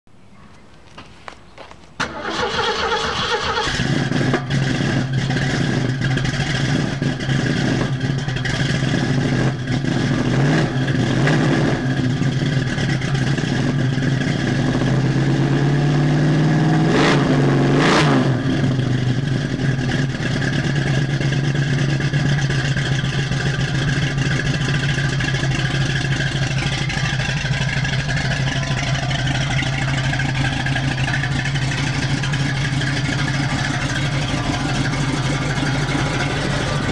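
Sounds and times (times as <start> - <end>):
car engine idling and revving: 2.0 - 36.9.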